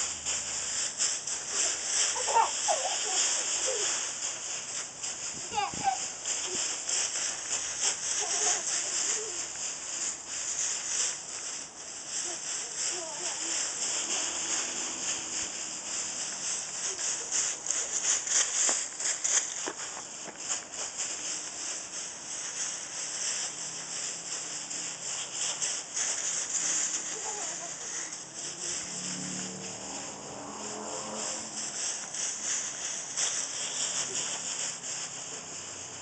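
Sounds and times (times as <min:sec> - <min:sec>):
dry leaves crunching underfoot: 0:00.0 - 0:36.0.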